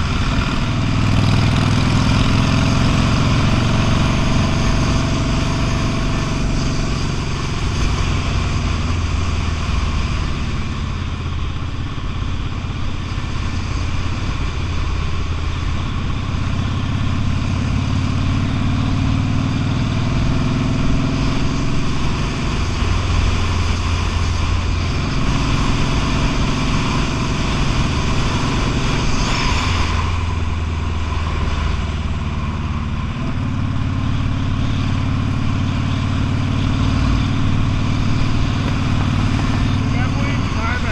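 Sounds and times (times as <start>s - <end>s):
motorcycle engine running: 0.0s - 40.9s
steady rush of road noise: 0.0s - 40.9s.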